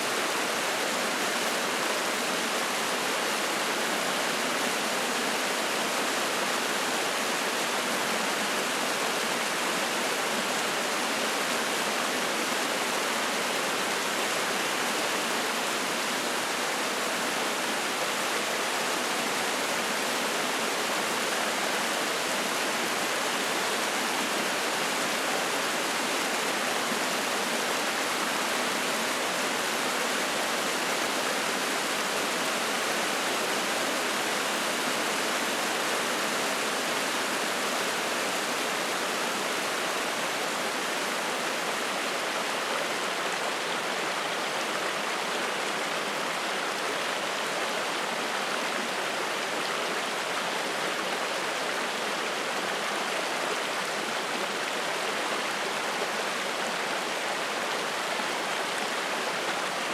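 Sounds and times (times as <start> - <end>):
mountain stream rushing and splashing: 0.0 - 59.9.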